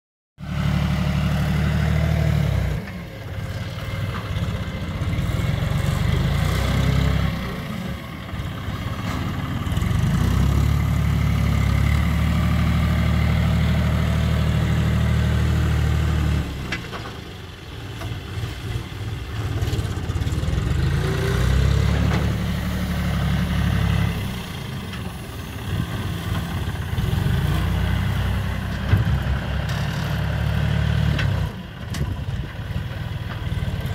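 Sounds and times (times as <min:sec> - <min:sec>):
tractor diesel engine revving: 0:00.4 - 0:33.9.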